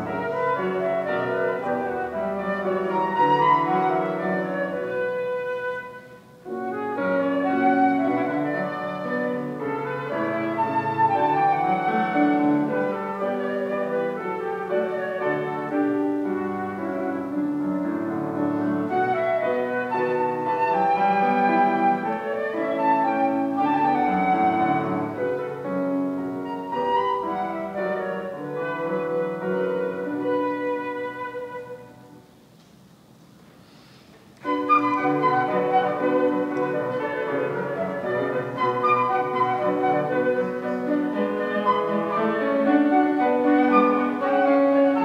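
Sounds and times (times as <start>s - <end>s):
flute and piano classical music: 0.0s - 45.0s.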